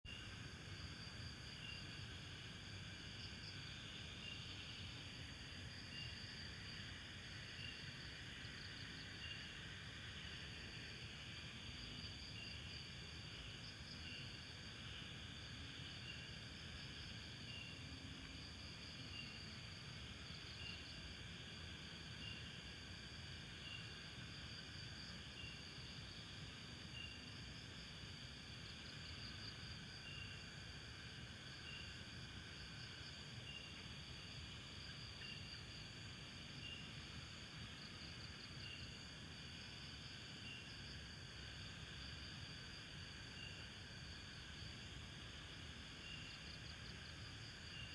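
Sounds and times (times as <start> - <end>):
short insect chirp: 0.1 - 21.4, 23.6 - 47.9
faint low hiss: 0.1 - 47.9
insects trilling: 0.1 - 47.9.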